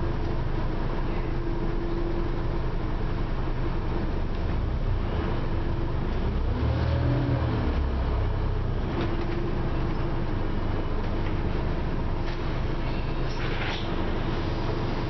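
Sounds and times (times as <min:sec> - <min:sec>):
bus diesel engine running: 0:00.0 - 0:15.0
road noise rumble: 0:00.0 - 0:15.0.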